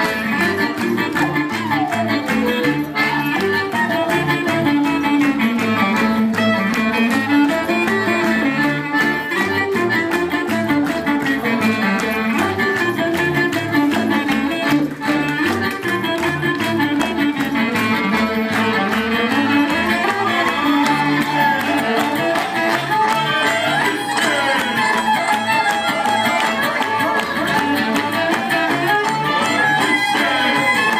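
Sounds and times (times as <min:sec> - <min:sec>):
bass: 0:00.0 - 0:30.9
strummed beat: 0:00.0 - 0:30.9
violin melody: 0:00.0 - 0:30.9.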